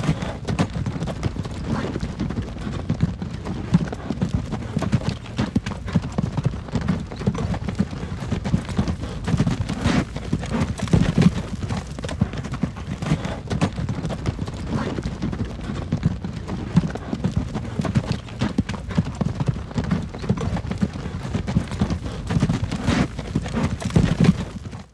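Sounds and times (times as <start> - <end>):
hooves clip-clopping: 0.0 - 24.9
wagon wheels rumbling: 0.0 - 24.9.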